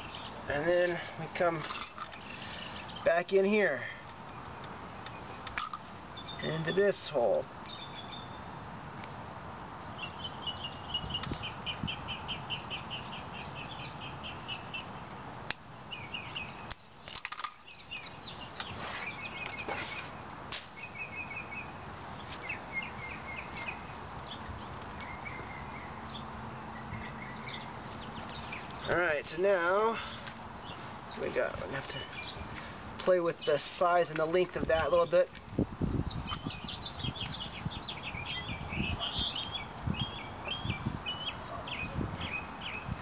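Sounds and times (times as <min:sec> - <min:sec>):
outdoor background hiss: 0:00.0 - 0:43.0
songbirds chirping: 0:00.0 - 0:43.0.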